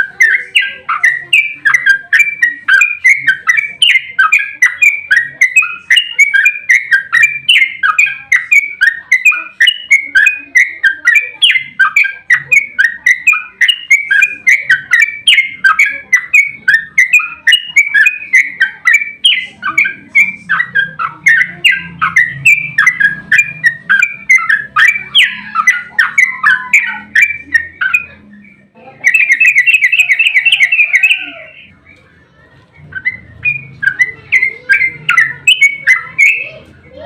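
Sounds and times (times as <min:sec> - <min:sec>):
bulbul singing chattering notes: 0:00.0 - 0:37.0
fast even bird trill: 0:00.0 - 0:37.0.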